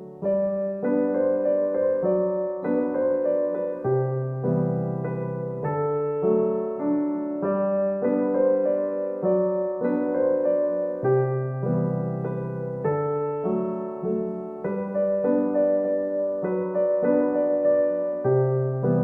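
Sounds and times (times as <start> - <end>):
gentle solo piano: 0.0 - 19.0.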